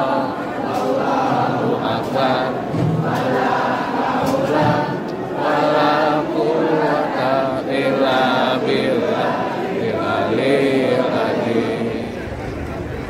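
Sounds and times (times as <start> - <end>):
crowd chanting a prayer: 0.0 - 13.0.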